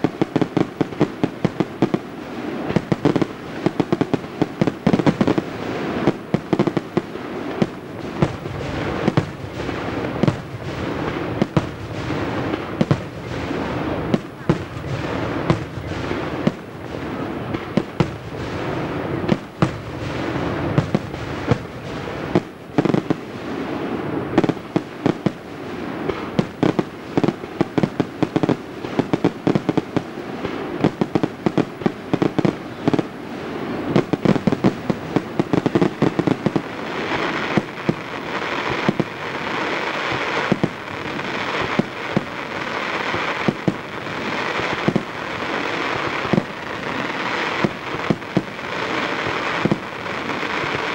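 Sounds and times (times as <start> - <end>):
firework bursts and bangs: 0.0 - 50.9
firework hiss: 0.0 - 50.9.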